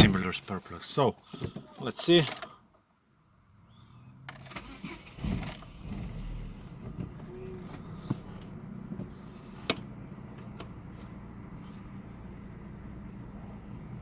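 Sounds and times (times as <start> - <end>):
car engine starting and idling: 0.0 - 2.4, 3.5 - 14.0.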